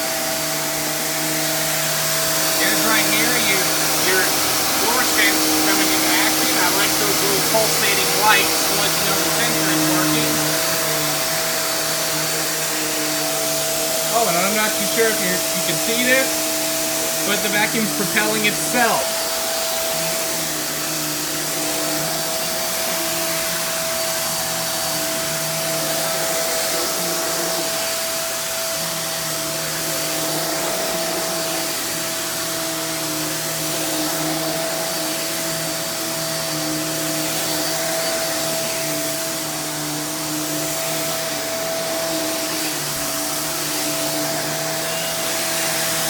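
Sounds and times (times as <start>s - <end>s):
upright vacuum cleaner running: 0.0s - 46.0s.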